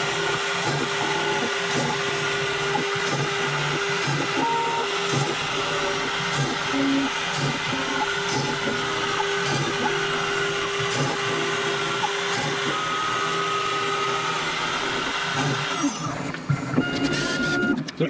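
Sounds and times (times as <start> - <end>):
cnc router spindle running: 0.0 - 18.0.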